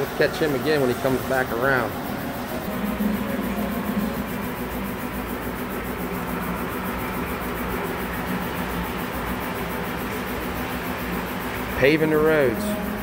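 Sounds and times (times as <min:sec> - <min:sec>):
hall ambient noise: 0:00.0 - 0:13.0
model trains humming: 0:00.0 - 0:13.0.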